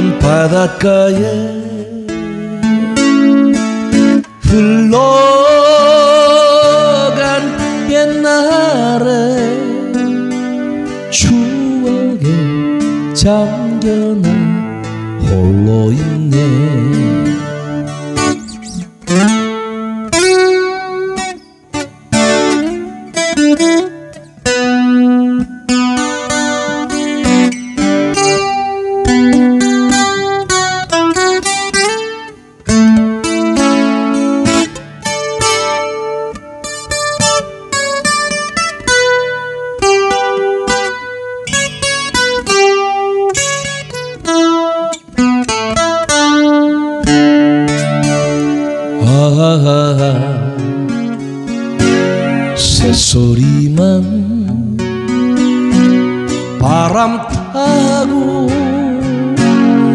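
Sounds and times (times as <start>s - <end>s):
acoustic guitar melody: 0.0s - 59.9s.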